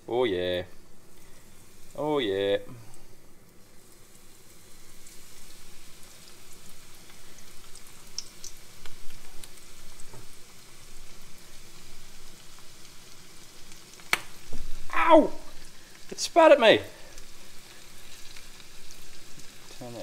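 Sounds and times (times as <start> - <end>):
food frying in hot oil: 0.0 - 20.0
oil popping and crackling: 0.9 - 20.0.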